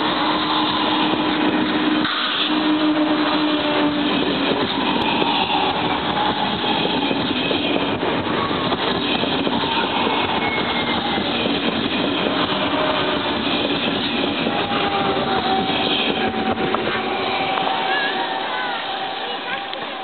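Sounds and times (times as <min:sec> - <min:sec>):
train wheels rushing: 0:00.0 - 0:20.0.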